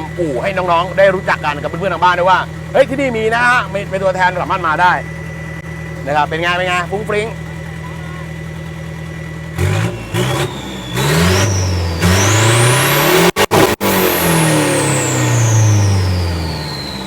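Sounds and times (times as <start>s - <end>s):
car engine revving: 0.0s - 17.0s
high whine: 0.0s - 17.0s.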